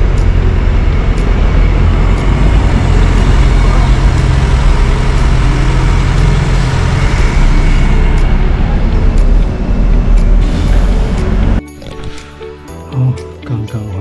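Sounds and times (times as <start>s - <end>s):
road traffic rumble: 0.0s - 11.6s.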